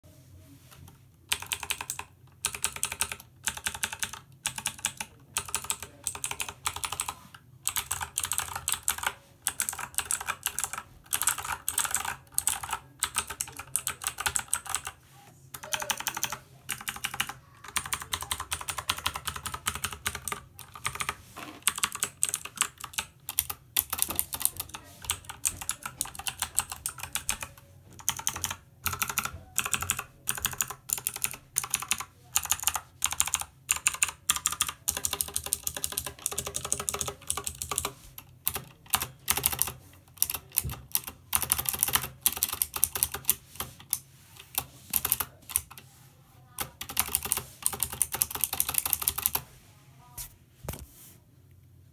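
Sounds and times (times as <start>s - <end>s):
keyboard typing: 1.3s - 45.9s, 46.5s - 49.5s.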